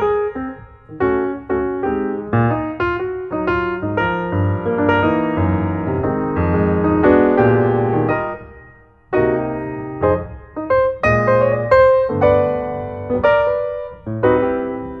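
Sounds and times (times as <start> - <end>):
electric piano music with bass: 0.0 - 15.0.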